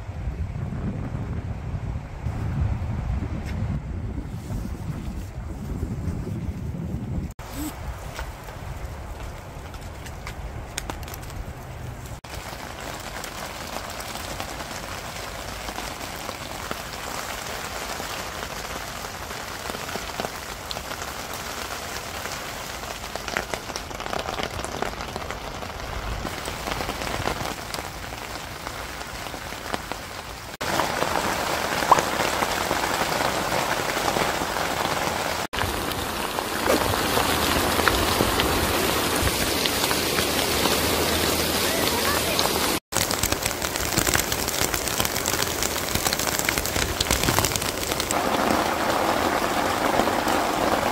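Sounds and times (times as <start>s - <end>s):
heavy rain falling: 7.4s - 50.9s.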